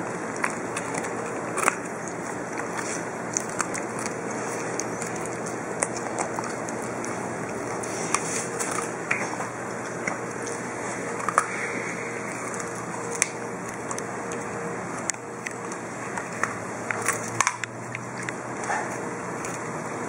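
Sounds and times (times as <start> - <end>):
puppy chewing carrot crunches: 0.0 - 20.0.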